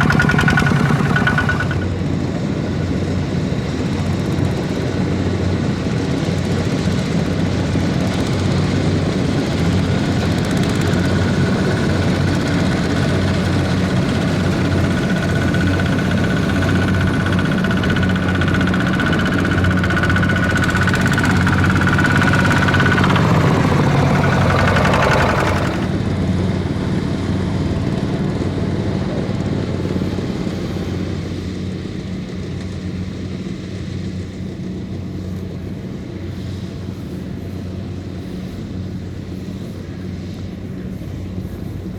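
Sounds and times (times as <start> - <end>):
engine whine: 0.0 - 41.9
tractor diesel engine running: 0.0 - 41.9.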